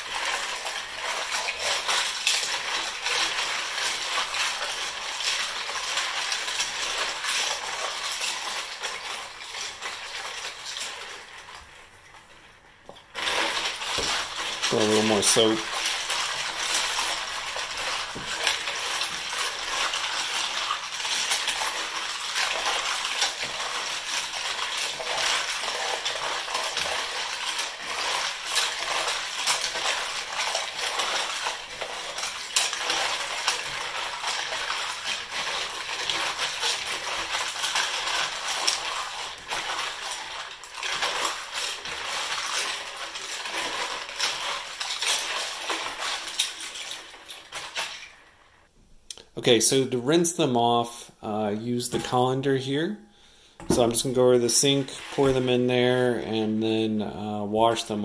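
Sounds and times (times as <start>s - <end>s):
water swishing: 0.0s - 48.7s, 53.6s - 56.8s.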